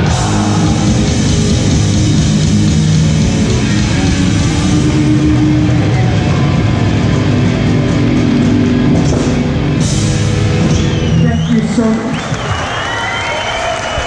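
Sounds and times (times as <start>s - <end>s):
punk band playing: 0.0s - 12.6s.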